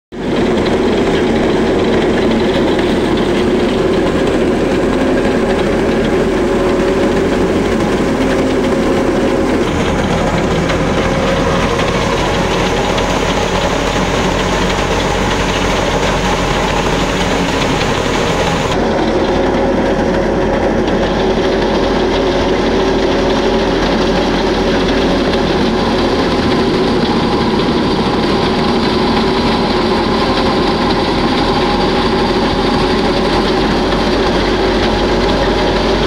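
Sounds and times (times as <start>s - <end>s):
threshing machine running: 0.1s - 36.0s.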